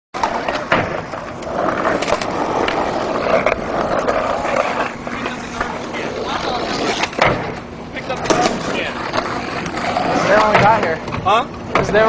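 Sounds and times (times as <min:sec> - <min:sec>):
skateboard clacks: 0:00.2 - 0:12.0
skateboard wheels rolling: 0:00.2 - 0:12.0.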